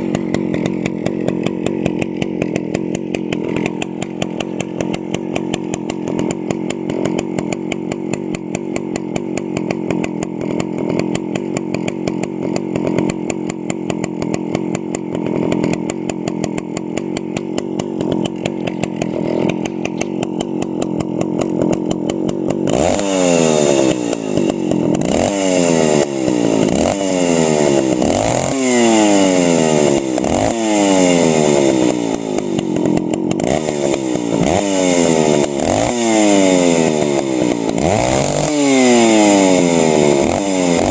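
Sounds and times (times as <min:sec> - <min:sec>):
chainsaw engine running and revving: 0:00.0 - 0:40.9.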